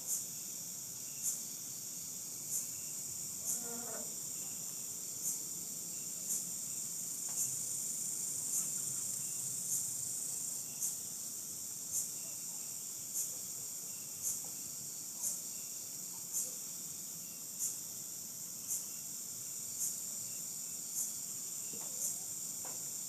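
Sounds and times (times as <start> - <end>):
high-pitched insect chorus: 0.0 - 23.0
short insect chirp: 0.0 - 23.0.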